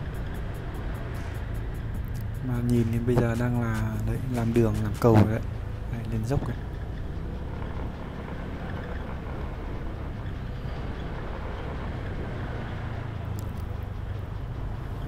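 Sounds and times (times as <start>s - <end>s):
scooter engine: 0.0s - 15.0s.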